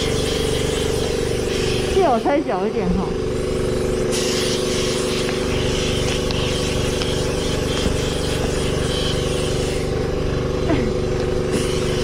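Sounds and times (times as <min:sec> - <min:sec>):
compressed-air gun hissing: 0:00.0 - 0:02.5, 0:03.4 - 0:12.0
air compressor running: 0:00.0 - 0:12.0.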